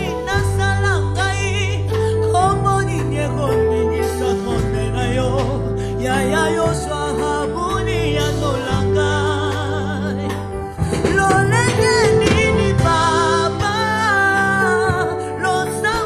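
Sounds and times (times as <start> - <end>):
bass guitar notes: 0.0 - 16.0
keyboard notes: 0.0 - 16.0.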